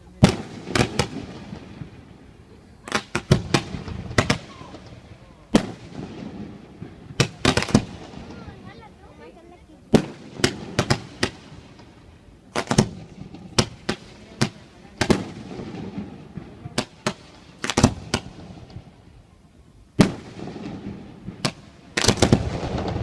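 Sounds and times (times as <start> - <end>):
fireworks bangs: 0.0 - 19.2, 19.9 - 23.0.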